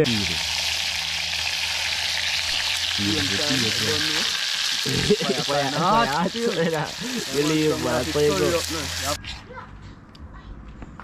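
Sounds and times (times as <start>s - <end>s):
seasonings sizzling in hot oil: 0.0s - 9.2s.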